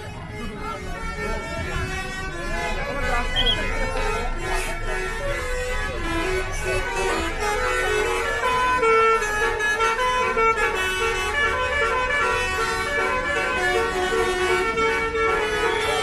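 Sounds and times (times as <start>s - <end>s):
bus air horns playing melody: 0.0s - 16.0s.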